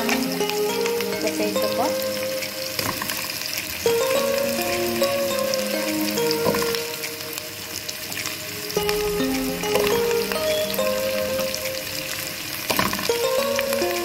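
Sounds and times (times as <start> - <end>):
slow background music: 0.0 - 14.0
vegetables sizzling in oil: 0.0 - 14.0.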